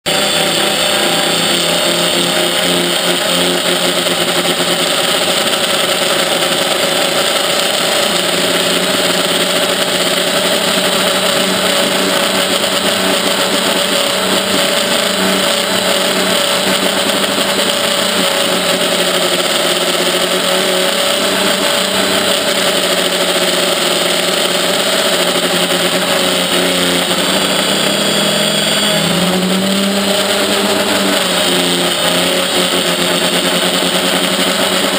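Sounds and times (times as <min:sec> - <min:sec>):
quadcopter motors whining: 0:00.1 - 0:34.9.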